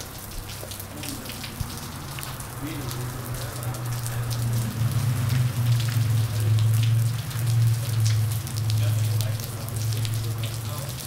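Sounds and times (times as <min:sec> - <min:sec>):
water dripping on sidewalk: 0:00.0 - 0:11.0.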